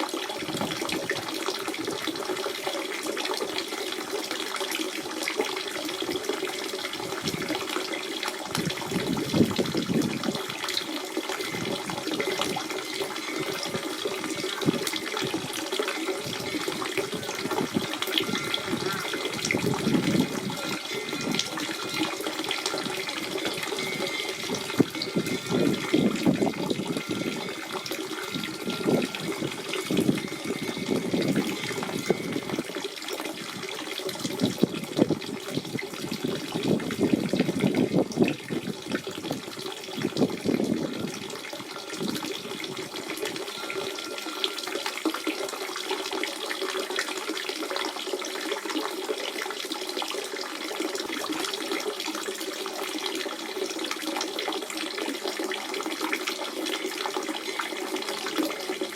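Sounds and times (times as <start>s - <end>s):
spring water burbling: 0.0s - 58.9s.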